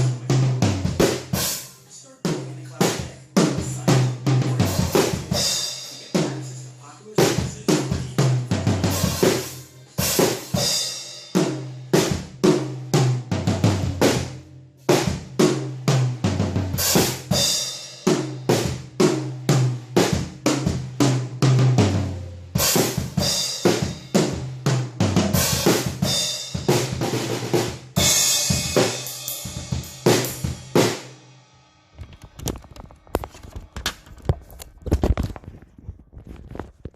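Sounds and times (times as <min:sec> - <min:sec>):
drum kit playing: 0:00.0 - 0:33.9.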